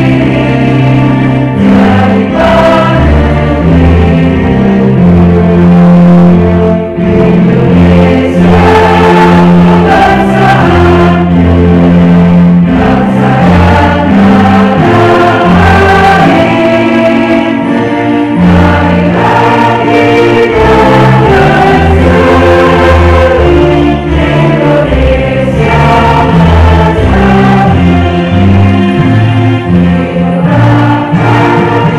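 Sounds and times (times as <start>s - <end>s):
band accompaniment: 0.0s - 31.9s
bass line: 0.0s - 31.9s
group singing worship song: 0.0s - 31.9s.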